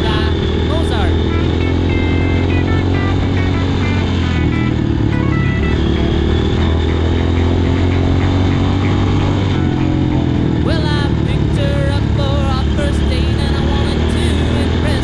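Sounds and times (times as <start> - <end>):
background music: 0.0 - 15.0
motorcycle engine running: 0.0 - 15.0.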